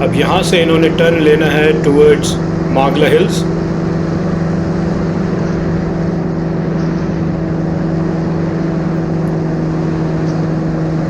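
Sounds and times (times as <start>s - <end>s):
aircraft engine and propeller drone: 0.0s - 11.0s.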